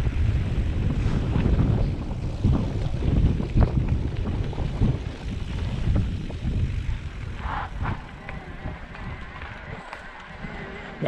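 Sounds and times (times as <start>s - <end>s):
bike tyres and frame rattling: 0.0s - 11.0s
wind buffeting microphone: 0.0s - 11.0s.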